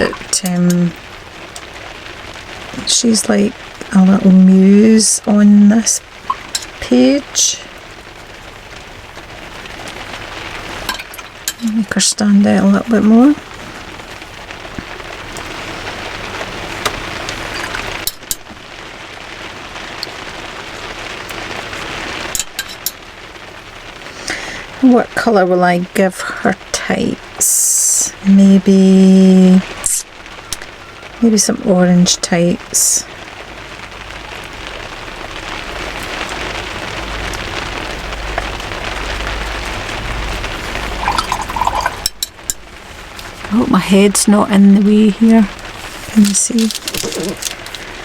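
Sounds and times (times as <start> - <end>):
heavy rain drumming on roof: 0.0 - 48.0.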